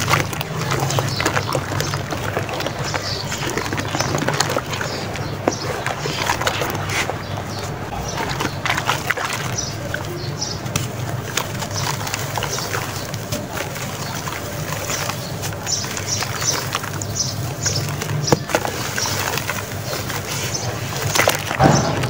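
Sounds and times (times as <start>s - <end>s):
birds calling: 0.0s - 22.0s
hands squeezing wet sand: 0.0s - 22.0s
water sloshing and splashing: 0.0s - 22.0s.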